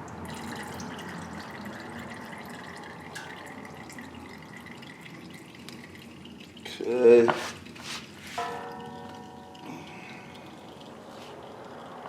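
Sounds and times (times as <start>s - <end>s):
oil dripping into a bucket: 0.0s - 12.0s.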